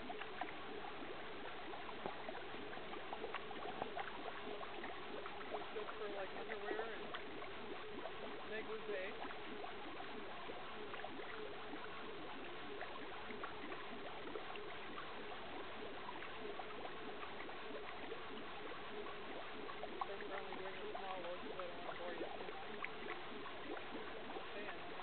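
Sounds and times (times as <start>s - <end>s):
washer churning and sloshing water: 0.0s - 25.0s.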